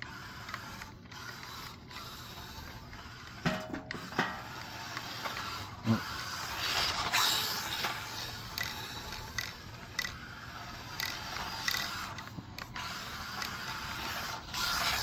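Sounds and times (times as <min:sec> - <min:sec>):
electric motor whirring: 0:00.0 - 0:15.0.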